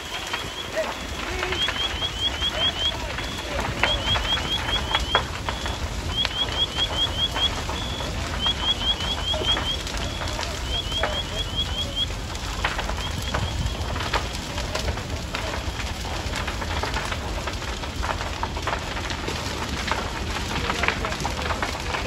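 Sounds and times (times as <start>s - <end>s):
building fire crackling: 0.0s - 22.0s
deep rumble: 0.0s - 22.0s
fire popping: 0.0s - 22.0s.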